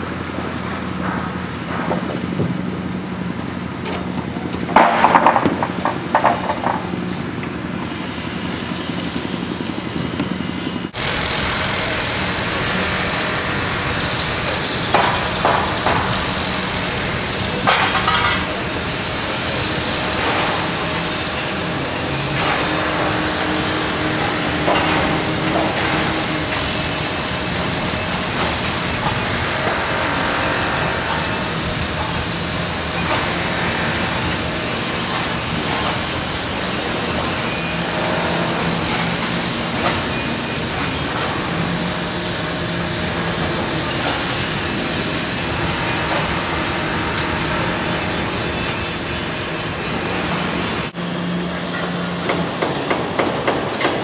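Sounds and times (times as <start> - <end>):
construction site din: 0.0 - 54.0.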